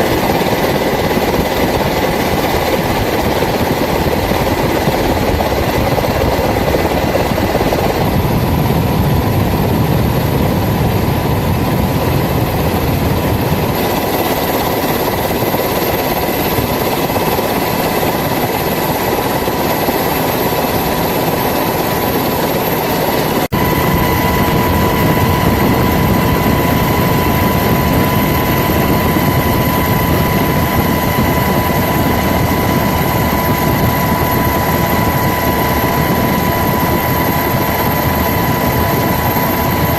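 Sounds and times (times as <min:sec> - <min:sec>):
helicopter engine and rotor: 0:00.0 - 0:39.9
high steady whine: 0:00.0 - 0:39.9.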